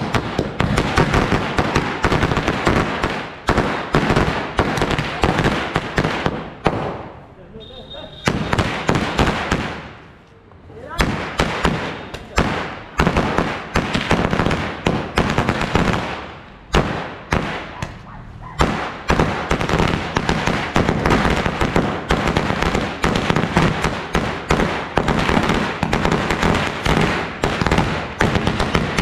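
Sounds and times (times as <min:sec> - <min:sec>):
firecrackers banging: 0:00.0 - 0:29.0.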